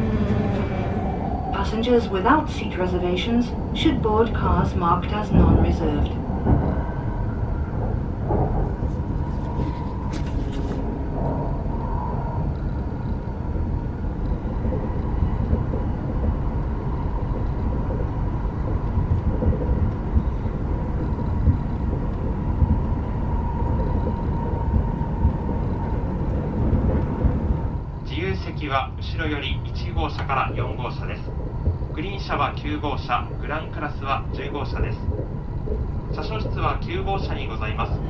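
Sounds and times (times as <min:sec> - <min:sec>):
train rumbling at speed: 0:00.0 - 0:38.0.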